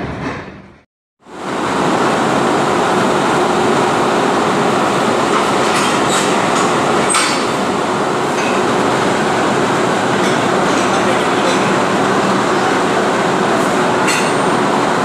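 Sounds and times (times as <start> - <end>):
electric locomotive running noise: 0.0 - 15.0.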